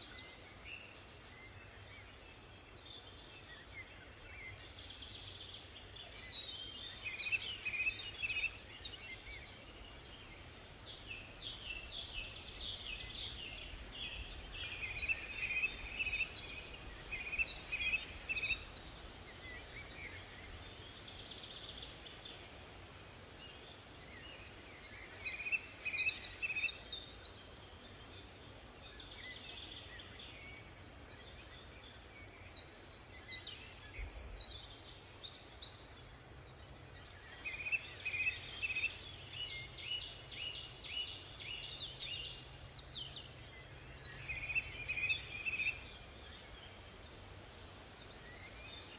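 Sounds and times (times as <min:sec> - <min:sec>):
songbirds chirping: 0:00.0 - 0:48.9
steady background hiss: 0:00.0 - 0:48.9.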